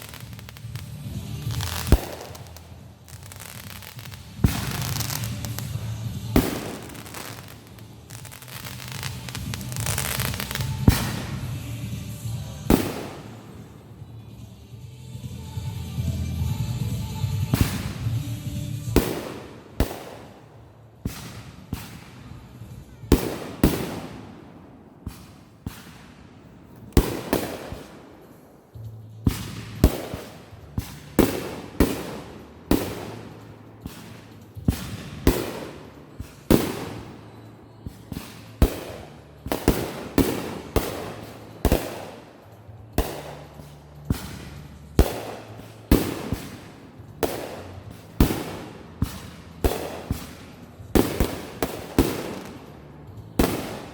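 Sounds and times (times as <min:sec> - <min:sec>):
fireworks bangs: 0:00.0 - 0:14.0, 0:16.8 - 0:53.9.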